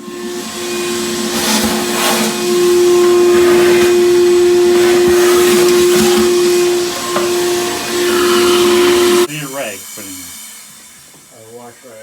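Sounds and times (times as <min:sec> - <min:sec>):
wet vacuum whining: 0:00.0 - 0:12.0.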